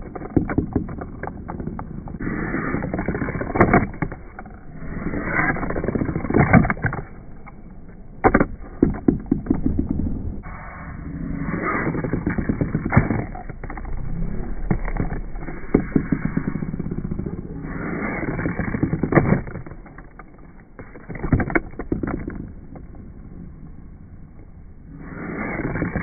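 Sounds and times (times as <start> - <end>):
fingerboard rolling on tabletop: 0.0 - 23.5, 24.8 - 26.0.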